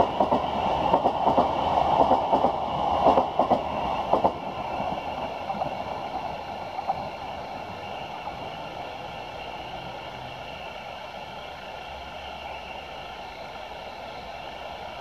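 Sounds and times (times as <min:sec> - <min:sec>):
distant train approaching: 0:00.0 - 0:15.0
electric train receding: 0:00.0 - 0:15.0.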